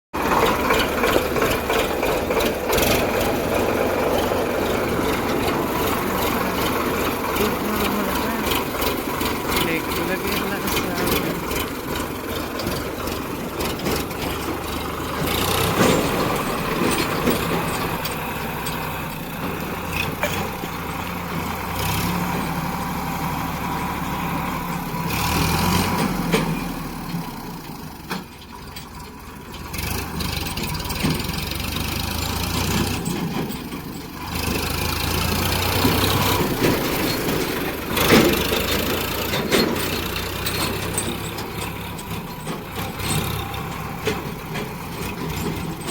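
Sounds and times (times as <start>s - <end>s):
tractor engine running: 0.1s - 45.9s.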